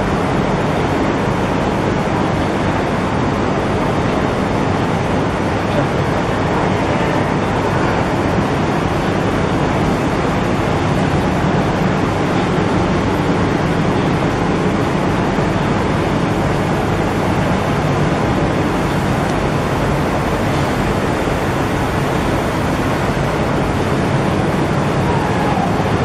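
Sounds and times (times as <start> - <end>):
machine running steadily: 0.0 - 26.0.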